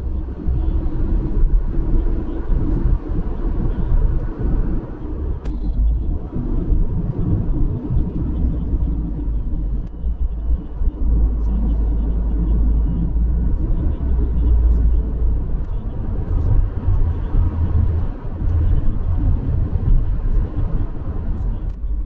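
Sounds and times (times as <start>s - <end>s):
engine running with low rumble: 0.0s - 22.0s.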